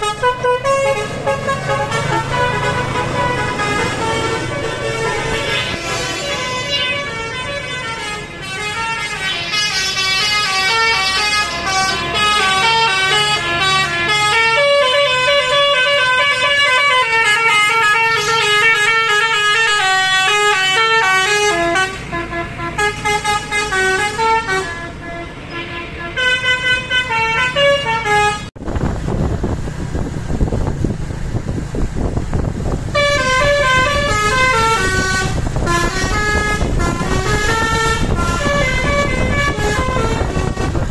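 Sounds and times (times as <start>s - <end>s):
bus musical horn melody: 0.0s - 28.6s, 32.8s - 40.9s
vehicle noise: 0.0s - 40.9s.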